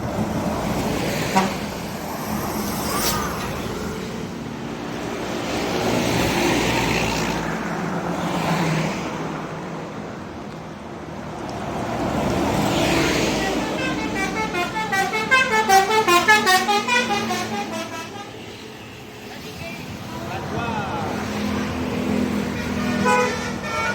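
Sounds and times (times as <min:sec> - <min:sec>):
road traffic passing: 0:00.0 - 0:23.9.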